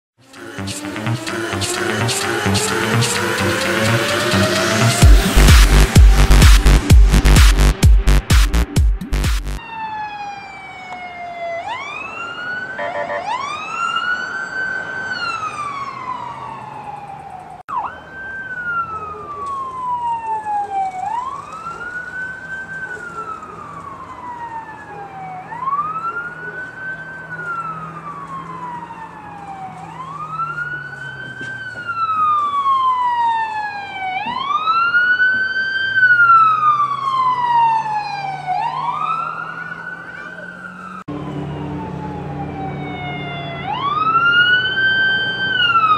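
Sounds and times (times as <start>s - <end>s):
emergency vehicle siren wailing: 0.2s - 45.9s.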